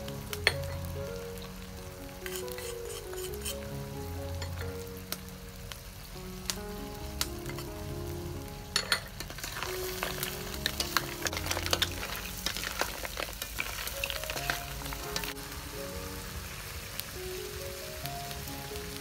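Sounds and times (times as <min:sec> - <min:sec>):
background music with held notes: 0:00.0 - 0:19.0
snails sizzling in a wok: 0:00.0 - 0:19.0.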